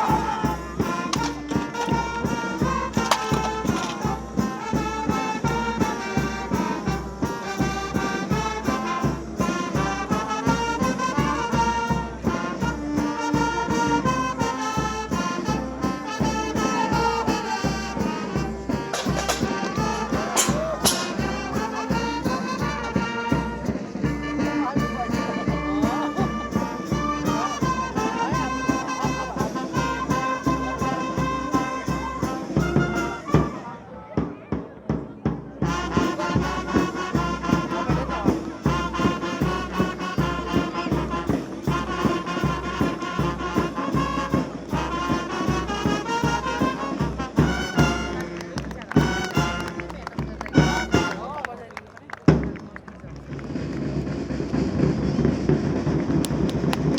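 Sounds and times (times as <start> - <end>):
steady drum beat: 0.0 - 33.4, 35.0 - 51.2, 53.5 - 56.9
brass band music: 0.0 - 33.9, 35.6 - 51.7.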